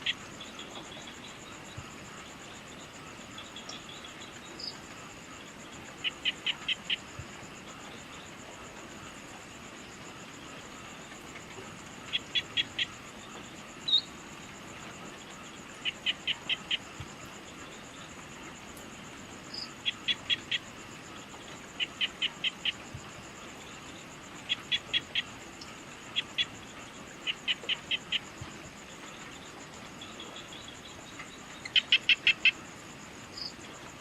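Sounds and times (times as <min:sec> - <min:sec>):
pulsing insect trill: 0:00.0 - 0:34.0.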